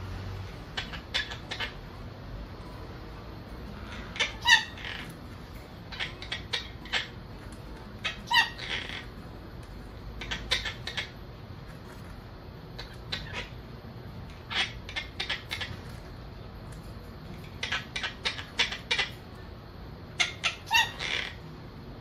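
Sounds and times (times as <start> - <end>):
parrot chirping: 0.4 - 21.6
parrot squawking: 0.5 - 2.2, 3.6 - 16.5, 17.2 - 19.5, 20.1 - 21.6.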